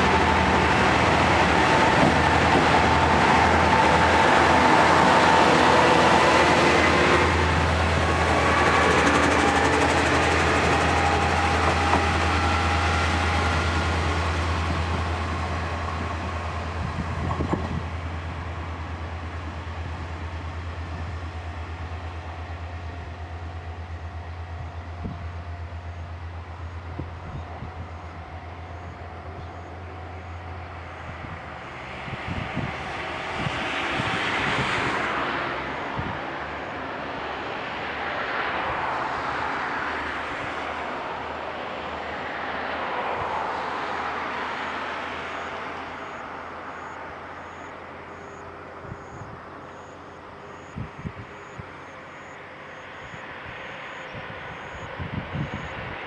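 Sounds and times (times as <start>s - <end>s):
diesel railcar engine: 0.0s - 56.0s.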